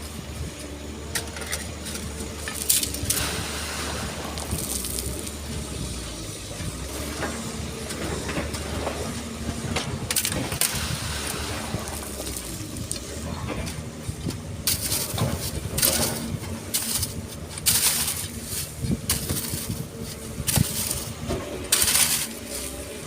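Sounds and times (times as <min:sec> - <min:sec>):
excavator diesel engine running: 0:00.0 - 0:23.0
sand and stones scraping: 0:01.0 - 0:23.0.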